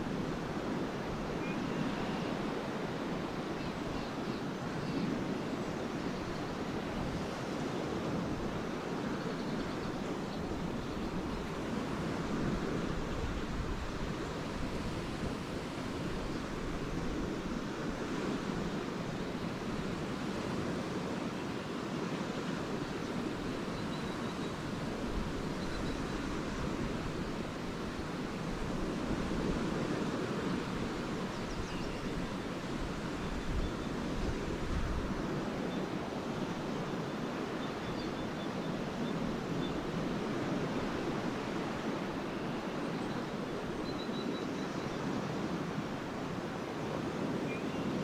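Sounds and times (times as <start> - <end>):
waves washing on shore: 0.0 - 43.9, 45.0 - 48.0
wind rumble on microphone: 0.0 - 48.0.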